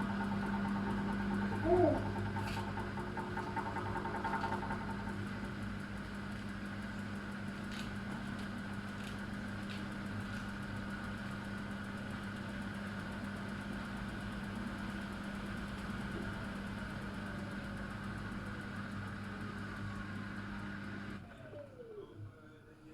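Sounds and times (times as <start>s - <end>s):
washing machine humming: 0.0s - 22.4s.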